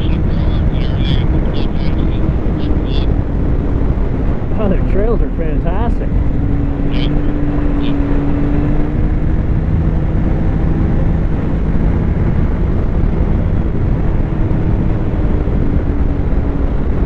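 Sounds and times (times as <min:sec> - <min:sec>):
snowmobile engine running: 0:00.0 - 0:17.0
wind and track rumble: 0:00.0 - 0:17.0.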